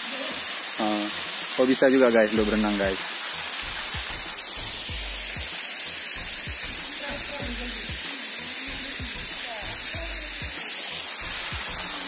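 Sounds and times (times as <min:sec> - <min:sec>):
small waterfall hissing: 0:00.0 - 0:12.0.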